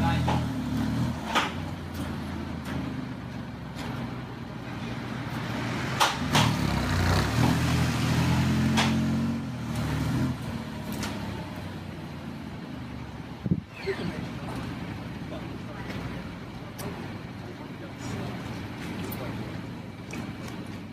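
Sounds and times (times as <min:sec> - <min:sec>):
car engine at low revs: 0:00.0 - 0:20.9.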